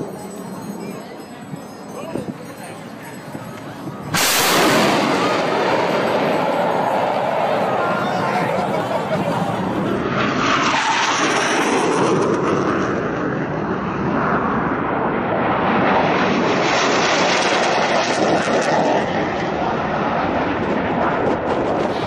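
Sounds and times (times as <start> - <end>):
fighter jet engines roaring: 0.0 - 22.0.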